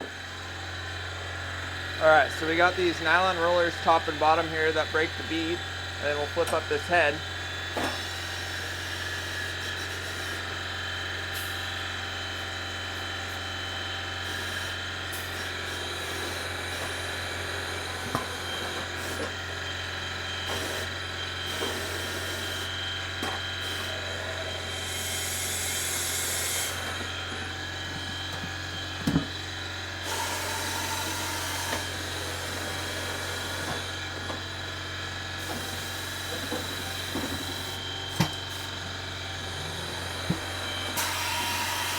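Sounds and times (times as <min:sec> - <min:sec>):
tire changer motor hum: 0:00.0 - 0:41.9.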